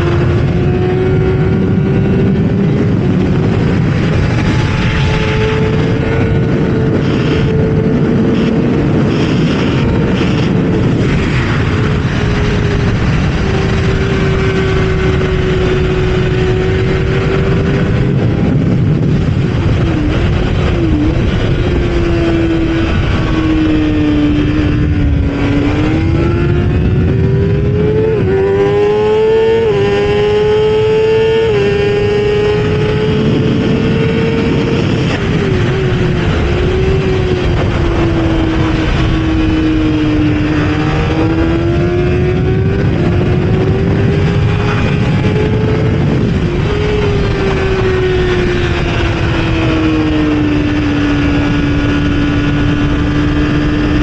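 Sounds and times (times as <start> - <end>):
heavy wind rush: 0.0 - 54.0
motorcycle engine racing: 0.0 - 54.0.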